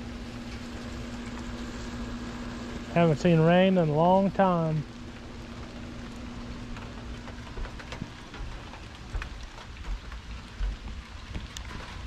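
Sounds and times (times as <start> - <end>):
light rain hiss: 0.0 - 12.0
raindrops ticking: 0.4 - 12.0.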